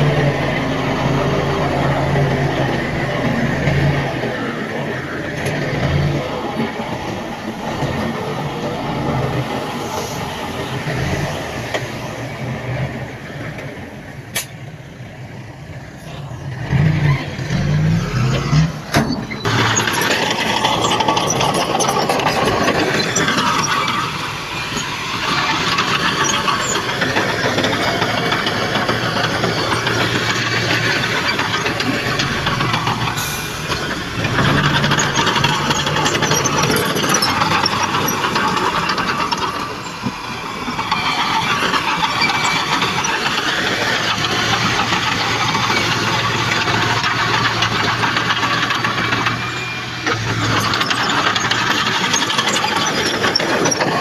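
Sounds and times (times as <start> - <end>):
heavy machinery diesel engines running: 0.0 - 54.0.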